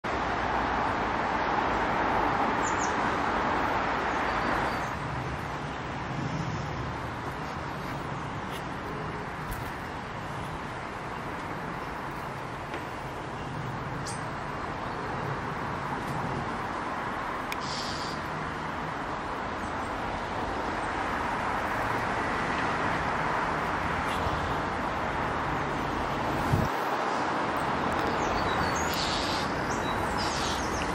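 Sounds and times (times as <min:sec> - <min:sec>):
distant road traffic: 0:00.0 - 0:30.9.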